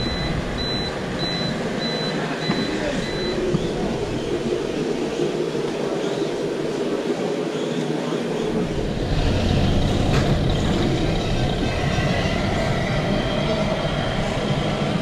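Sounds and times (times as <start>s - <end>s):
model trucks rumbling and whining: 0.0s - 6.9s, 8.4s - 15.0s
murmur of people: 0.0s - 15.0s.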